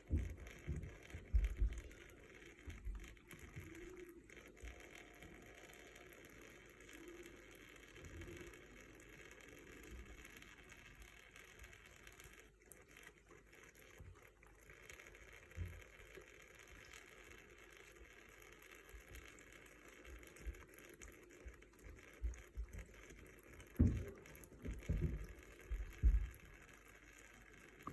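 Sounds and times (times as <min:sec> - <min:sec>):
water running from a tap: 0:00.0 - 0:27.9.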